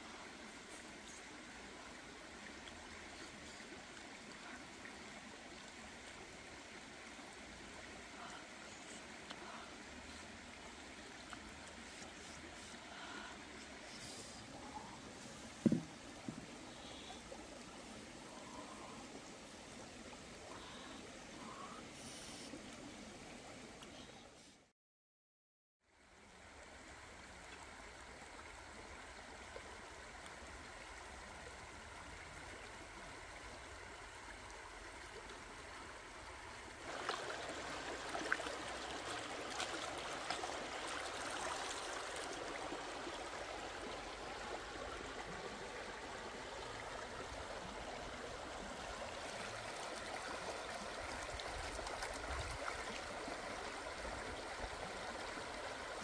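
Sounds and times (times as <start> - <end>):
water rushing in a stream: 0.0 - 24.4, 25.9 - 56.0.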